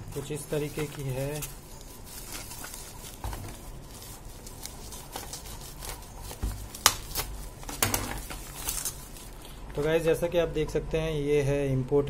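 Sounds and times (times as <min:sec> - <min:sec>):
bubble wrap crinkling: 0:00.0 - 0:10.3.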